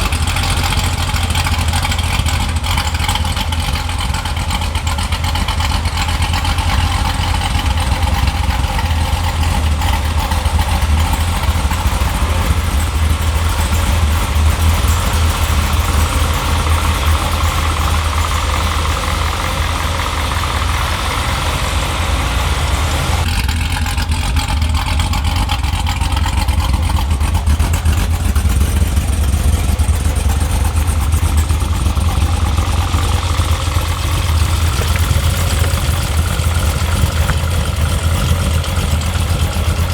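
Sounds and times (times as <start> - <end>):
car engine idling with deep rumble: 0.0 - 39.9.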